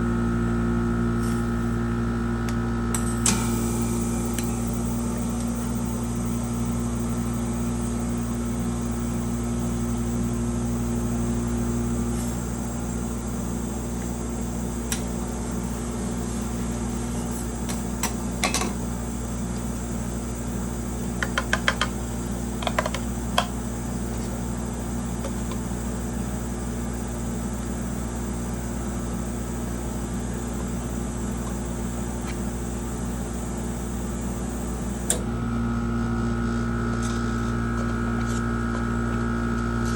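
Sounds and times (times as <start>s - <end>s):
machine electric hum: 0.0s - 39.9s.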